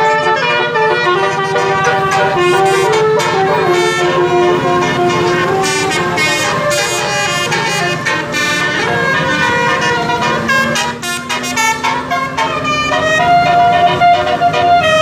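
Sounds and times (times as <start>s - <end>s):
musical bus horn playing a tune: 0.0s - 15.0s.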